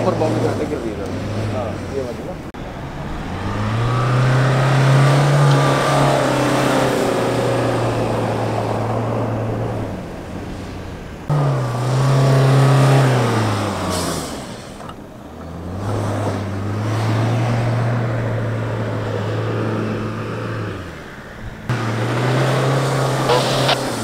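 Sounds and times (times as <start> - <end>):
car engines revving hard: 0.0 - 24.0.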